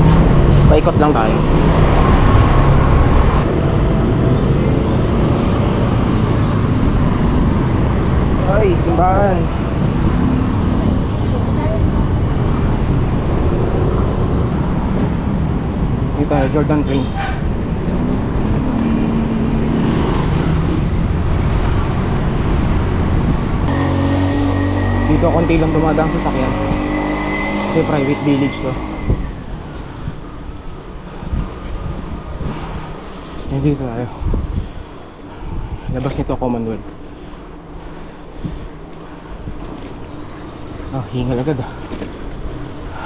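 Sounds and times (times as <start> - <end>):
engine hum with high whine: 0.0 - 43.0
road traffic rumble: 0.0 - 43.0.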